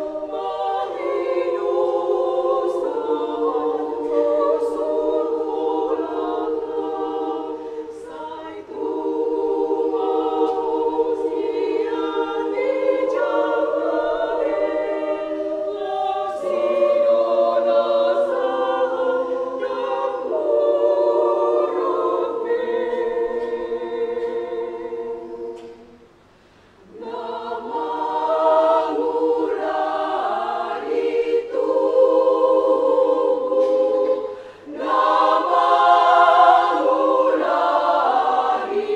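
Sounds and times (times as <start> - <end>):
women's choir singing: 0.0 - 38.9.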